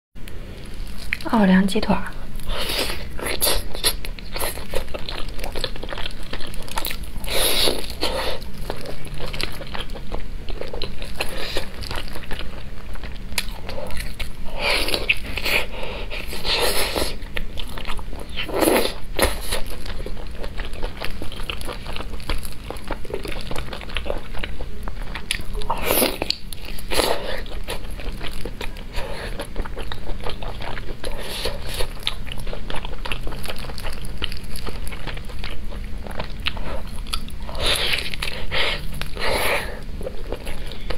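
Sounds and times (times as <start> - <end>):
chewing chicken drumsticks: 3.2 - 15.6, 17.3 - 40.9.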